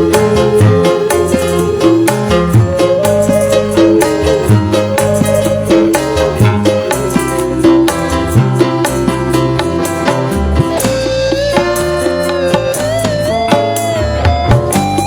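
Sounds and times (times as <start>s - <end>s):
band playing instrumental music: 0.0s - 15.0s.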